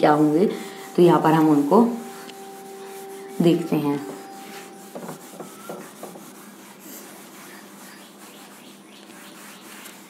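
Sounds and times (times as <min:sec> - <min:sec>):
duster rubbing a whiteboard: 0:00.0 - 0:10.0.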